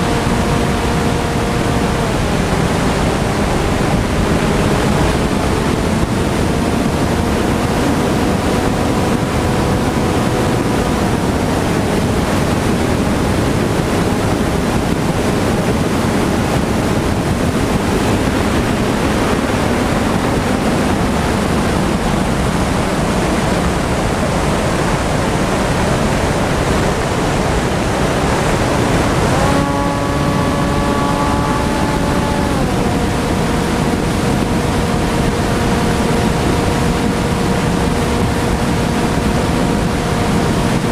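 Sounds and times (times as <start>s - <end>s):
electric motor whine: 0.0s - 25.0s, 27.2s - 40.9s
heavy wind rush: 0.0s - 40.9s.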